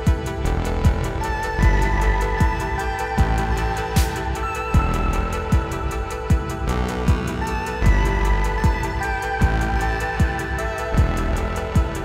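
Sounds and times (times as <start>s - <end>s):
held music tones: 0.0s - 12.0s
kick-drum beat: 0.0s - 12.0s.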